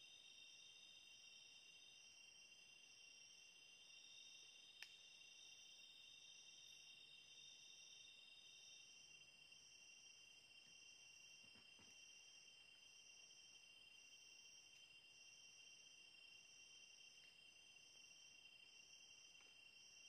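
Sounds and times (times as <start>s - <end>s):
night insects trilling: 0.0s - 20.0s.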